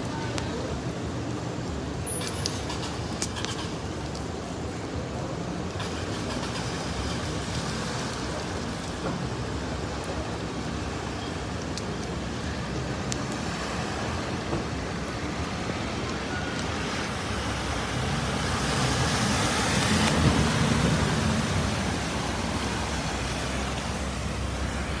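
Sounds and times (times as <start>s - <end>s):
car splashing through floodwater: 0.6s - 25.0s.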